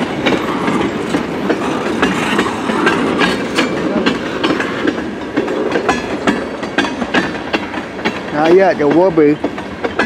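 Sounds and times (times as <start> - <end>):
train wheels clacking over rail joints: 0.0 - 10.0.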